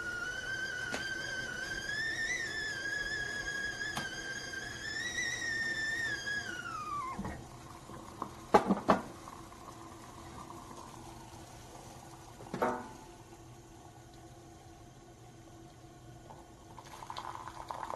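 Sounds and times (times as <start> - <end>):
kettle whistling: 0.0 - 17.9.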